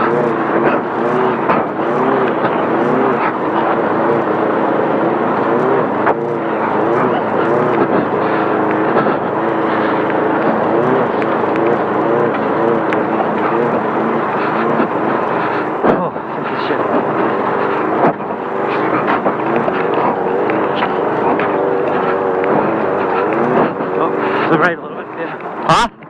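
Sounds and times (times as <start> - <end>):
race car engine revving: 0.0 - 26.0
wind tyre and gravel noise: 0.0 - 26.0.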